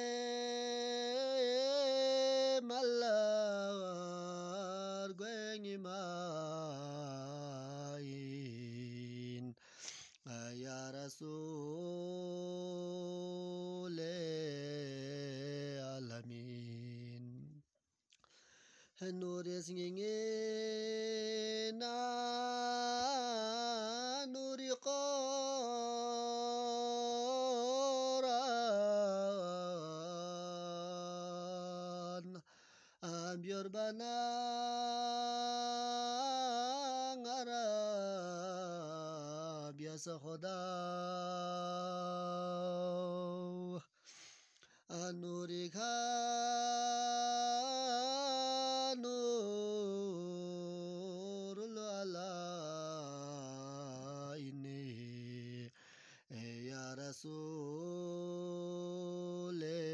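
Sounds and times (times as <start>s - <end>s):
person singing devotional song: 0.0s - 59.9s.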